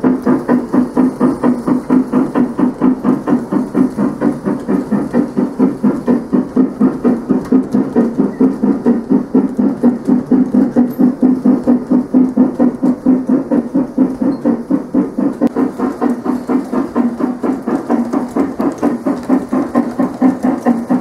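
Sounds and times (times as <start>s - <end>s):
model train running: 0.0s - 21.0s.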